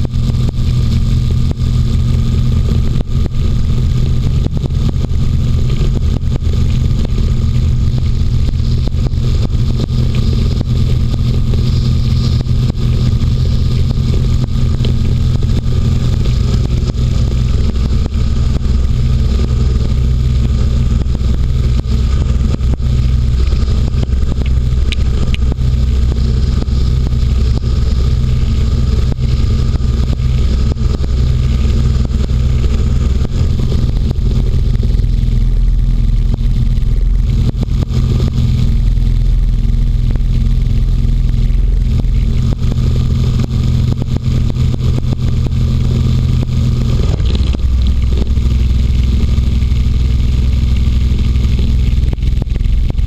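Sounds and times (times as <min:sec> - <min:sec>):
hovercraft engine and propeller: 0:00.0 - 0:53.0.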